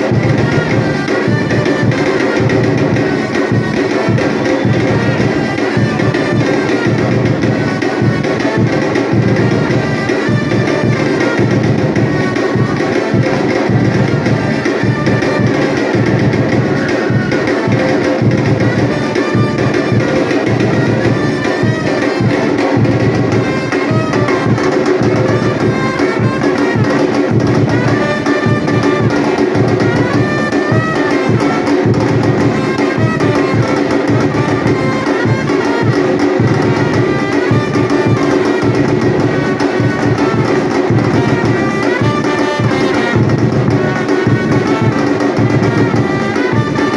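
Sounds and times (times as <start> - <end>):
drum group playing rhythm: 0.0 - 46.9
melody over drums: 0.0 - 46.9.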